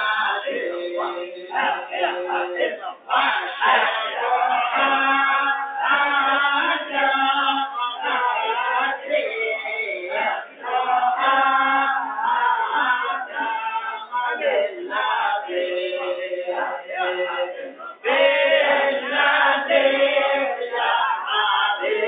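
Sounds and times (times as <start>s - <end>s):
men singing devotional song: 0.0s - 22.0s.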